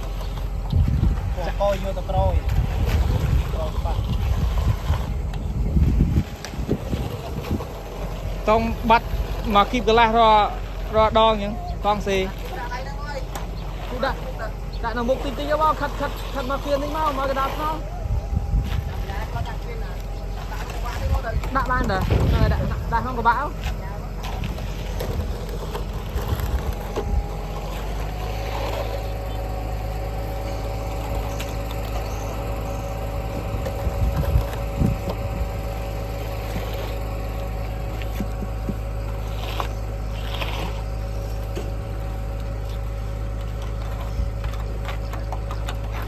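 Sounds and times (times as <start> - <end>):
machinery engine drone: 0.0 - 46.0
steady hum: 0.0 - 46.0.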